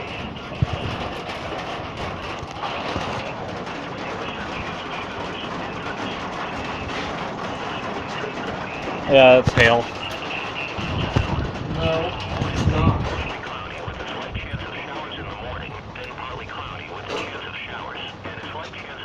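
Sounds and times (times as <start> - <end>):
hail rattling: 0.0 - 19.0.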